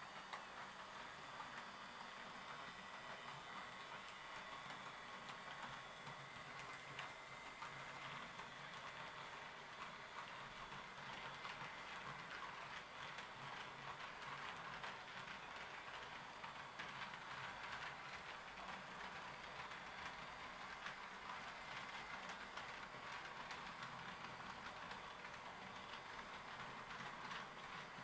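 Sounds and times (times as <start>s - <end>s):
model train wheels clicking: 0.0s - 28.0s.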